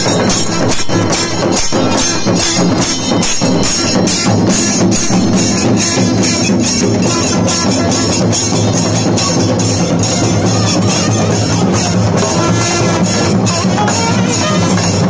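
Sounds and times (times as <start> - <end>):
barrel drums beaten fast: 0.0 - 15.0
metallic jingling: 0.0 - 15.0.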